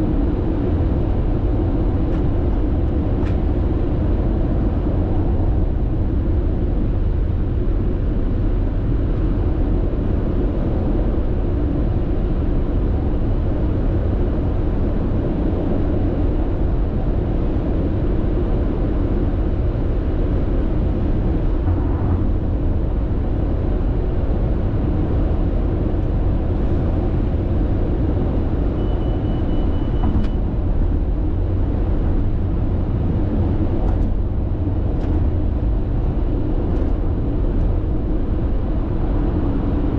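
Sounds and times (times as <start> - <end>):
car road and tyre noise: 0.0 - 39.9.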